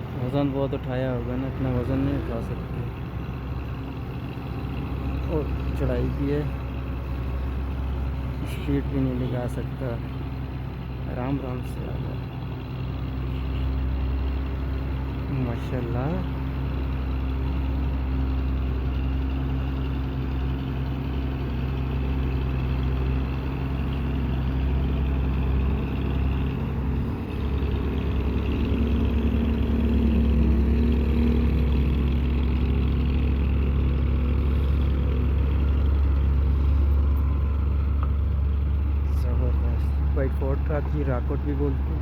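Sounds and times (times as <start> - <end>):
truck engine labouring uphill: 0.0 - 42.0.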